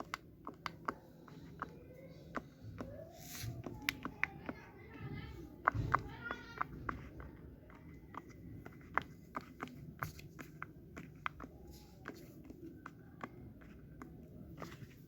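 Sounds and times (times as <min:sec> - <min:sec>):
plastic fidget toys clicking: 0:00.0 - 0:15.0.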